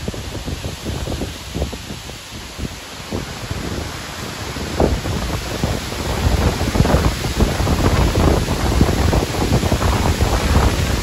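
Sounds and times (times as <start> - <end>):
wind buffeting microphone: 0.0 - 11.0
wind thrashing through trees: 0.0 - 11.0.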